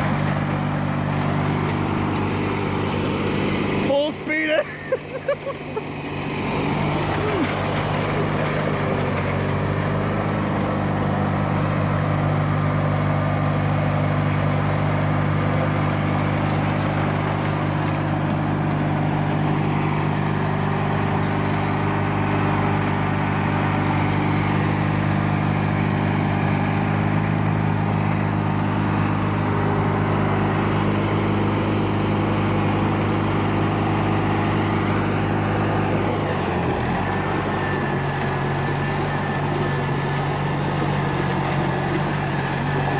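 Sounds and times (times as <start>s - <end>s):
lawn tractor engine at full throttle: 0.0s - 42.9s.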